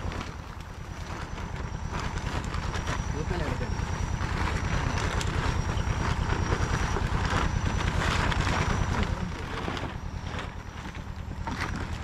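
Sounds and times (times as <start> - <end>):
motorboat engine throbbing: 0.0 - 12.0.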